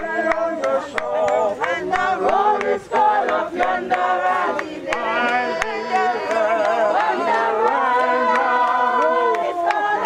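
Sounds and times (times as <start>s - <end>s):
group of voices singing: 0.0s - 10.0s.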